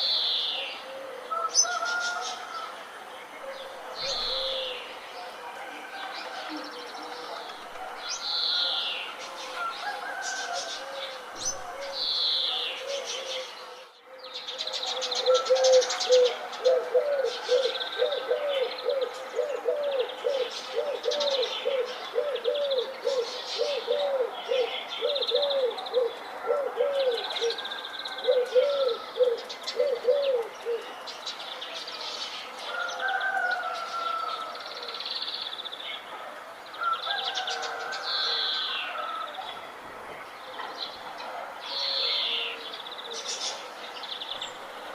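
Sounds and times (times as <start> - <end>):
birds chirping and warbling: 0.0 - 44.9.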